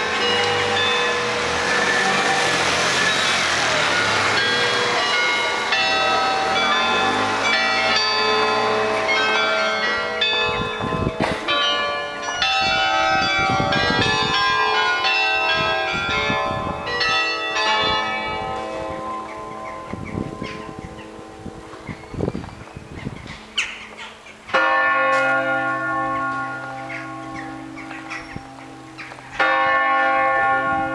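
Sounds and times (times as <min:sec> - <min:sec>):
carillon bells playing a tune: 0:00.0 - 0:21.6, 0:24.5 - 0:30.9.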